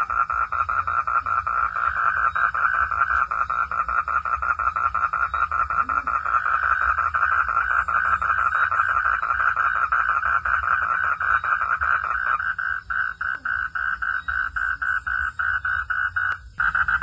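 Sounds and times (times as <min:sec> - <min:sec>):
frog calling in pulses: 0:00.0 - 0:17.0.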